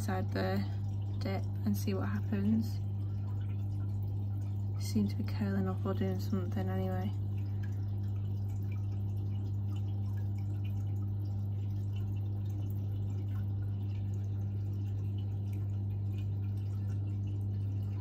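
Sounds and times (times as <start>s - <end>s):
faint dripping water: 0.0s - 18.0s
low electrical hum: 0.0s - 18.0s.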